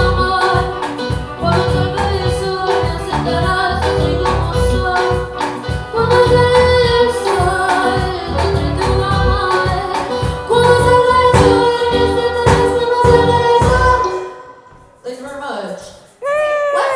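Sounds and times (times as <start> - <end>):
live band with drums and bass: 0.0 - 14.4
woman singing: 0.0 - 14.8.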